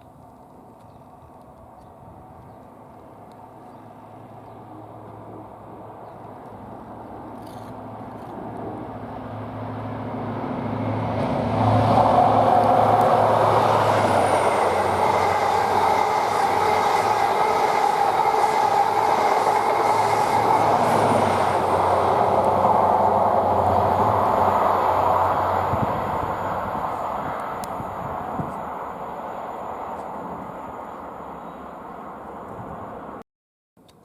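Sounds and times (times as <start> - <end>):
train wheels rumbling on rails: 0.2 - 31.0
train engine: 0.2 - 33.2.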